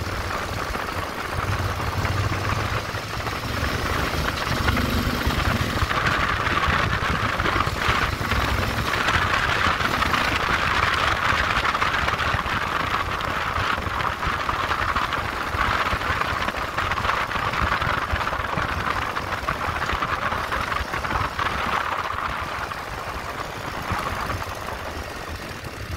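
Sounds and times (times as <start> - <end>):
motorcycle engine rumble: 0.0 - 25.9.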